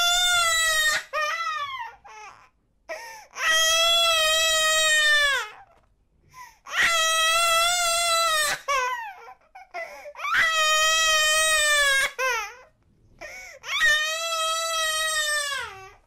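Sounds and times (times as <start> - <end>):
baby crying: 0.0 - 5.8, 6.6 - 16.0.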